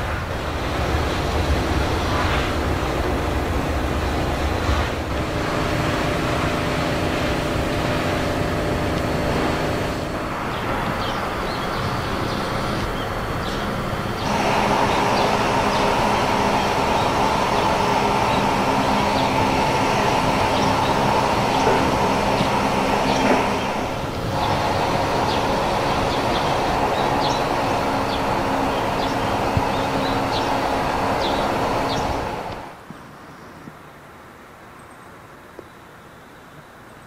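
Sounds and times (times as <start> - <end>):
mechanical rumble and hum: 0.0 - 32.8.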